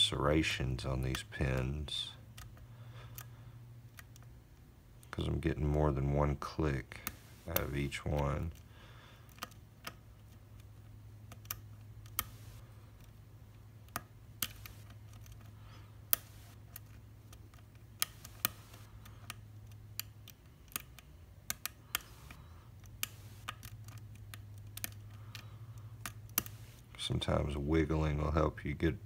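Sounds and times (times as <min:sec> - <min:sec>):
steady low hum: 0:00.0 - 0:29.0
padlock pins clicking: 0:00.5 - 0:05.8, 0:07.0 - 0:26.9.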